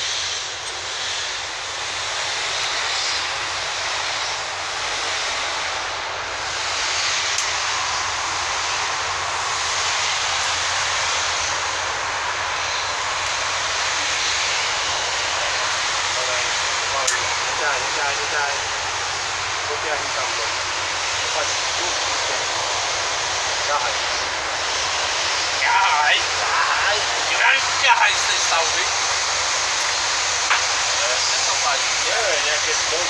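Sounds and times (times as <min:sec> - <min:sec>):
steady loud rushing noise: 0:00.0 - 0:33.0.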